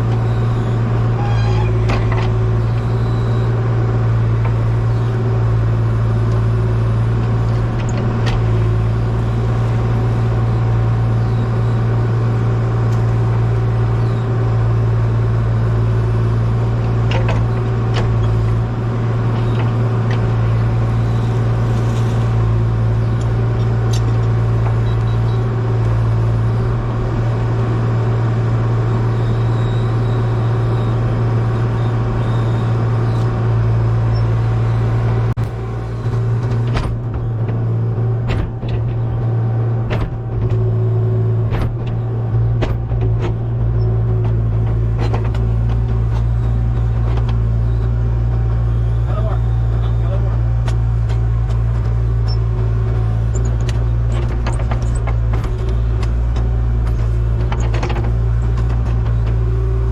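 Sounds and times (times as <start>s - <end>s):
heavy machine engine running: 0.0s - 59.9s.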